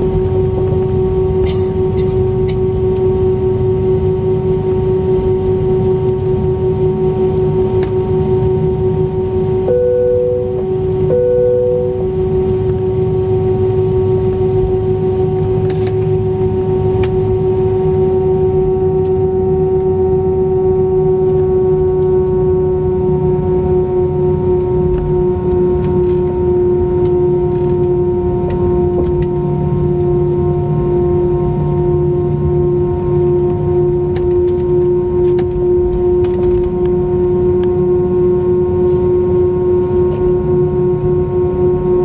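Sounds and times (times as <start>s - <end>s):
jet engines idling in cabin: 0.0s - 42.0s.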